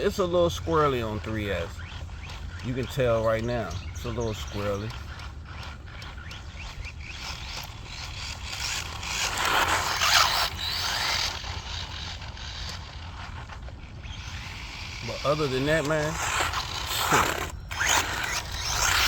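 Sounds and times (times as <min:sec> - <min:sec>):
rc truck running: 0:00.0 - 0:19.0
tyres scraping over ground: 0:00.0 - 0:19.0.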